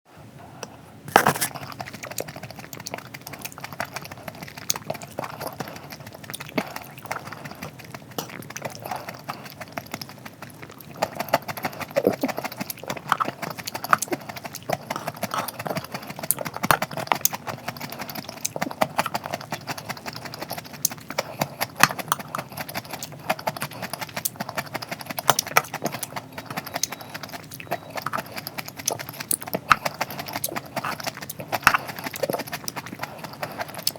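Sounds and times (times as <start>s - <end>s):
chewing and crunching food: 0.4s - 33.9s
wet mouth clicks: 1.1s - 33.9s.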